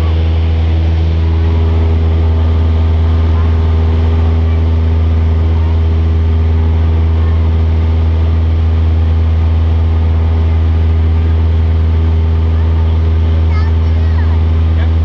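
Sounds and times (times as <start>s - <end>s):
airplane engine drone: 0.0s - 15.0s.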